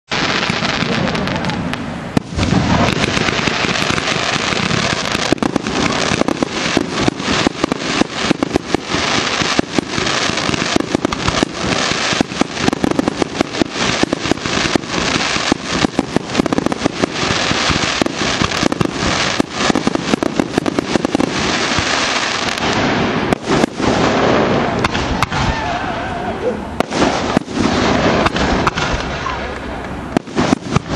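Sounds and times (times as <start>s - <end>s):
firework cracks and pops: 0.1s - 25.8s, 26.8s - 30.9s
firework hiss: 0.1s - 30.9s.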